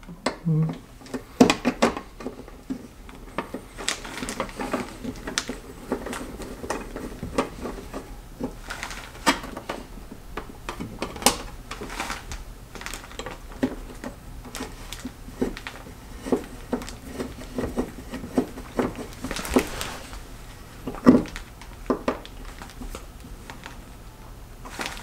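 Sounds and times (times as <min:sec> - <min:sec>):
plastic plate handled: 0:00.6 - 0:23.8.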